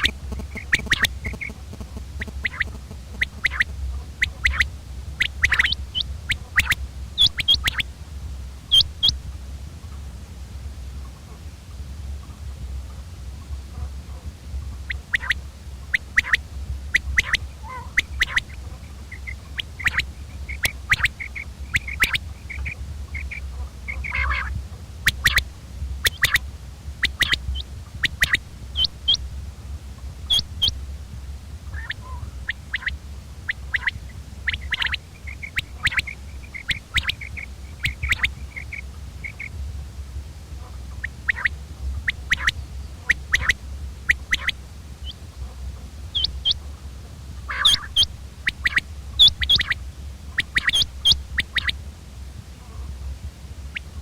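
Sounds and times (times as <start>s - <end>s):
quail calling: 0.0s - 8.0s, 8.7s - 9.3s, 12.3s - 29.4s, 30.2s - 30.9s, 31.6s - 39.6s, 40.6s - 51.8s, 53.7s - 54.0s
steady low hum: 0.0s - 54.0s.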